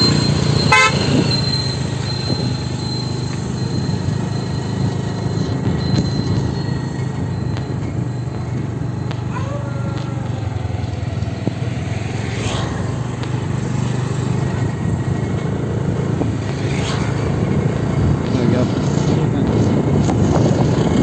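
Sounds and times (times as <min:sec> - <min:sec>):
low traffic rumble: 0:00.0 - 0:21.0
vehicles passing close by: 0:00.0 - 0:21.0.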